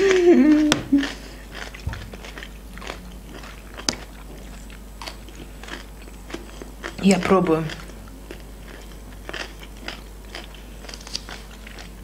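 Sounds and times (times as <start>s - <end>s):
crunching cucumber close up: 0.5s - 12.0s.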